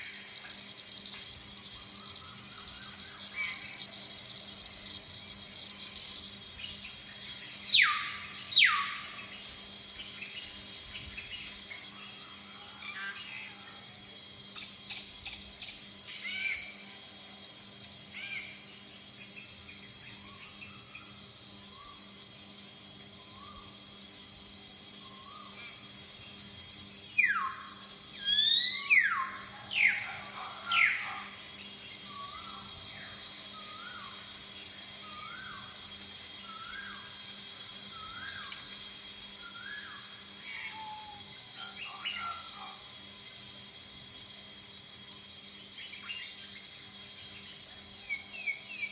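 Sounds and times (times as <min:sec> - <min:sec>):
crickets buzzing chorus: 0:00.0 - 0:48.9.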